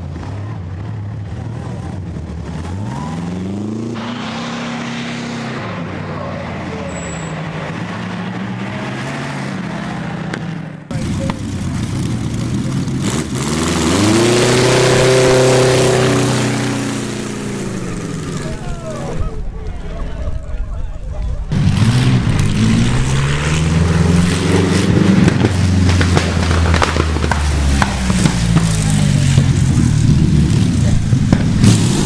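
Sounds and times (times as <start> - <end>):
aero engine revving: 0.0 - 19.6, 21.1 - 32.0.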